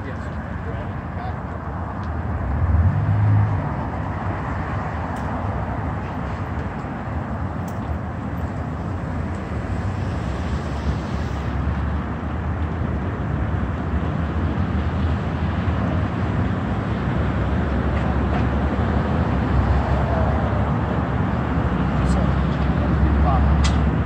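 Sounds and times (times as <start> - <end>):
cars passing on street: 0.0 - 24.0.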